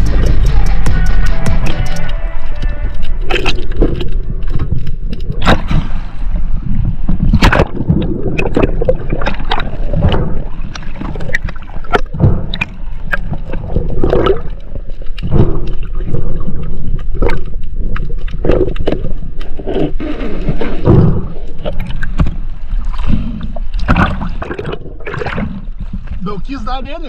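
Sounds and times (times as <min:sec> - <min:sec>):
water sloshing and gurgling: 0:00.0 - 0:27.0.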